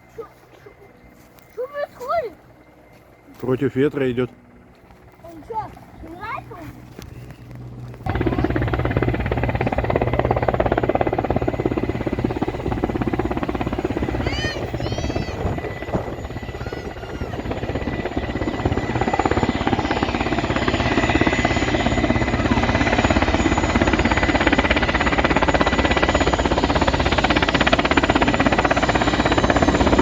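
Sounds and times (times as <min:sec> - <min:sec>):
helicopter rotor beating: 0:00.0 - 0:30.0
helicopter turbine whine: 0:00.0 - 0:30.0.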